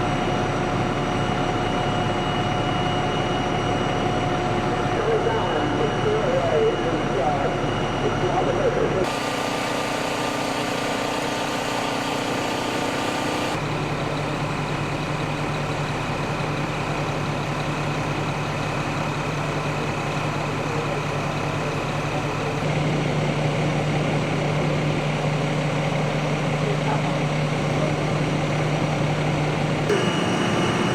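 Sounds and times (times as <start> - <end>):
fire truck engine humming: 0.0 - 30.9.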